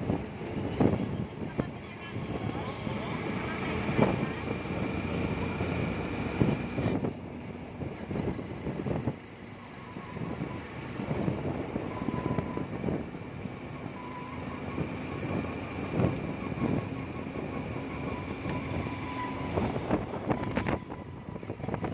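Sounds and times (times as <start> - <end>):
road noise: 0.0 - 21.9
wind gusting on microphone: 0.0 - 21.9.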